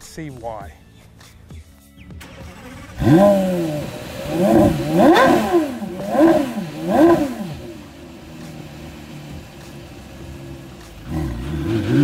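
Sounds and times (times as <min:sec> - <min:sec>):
sports car engine revving: 0:02.2 - 0:12.0.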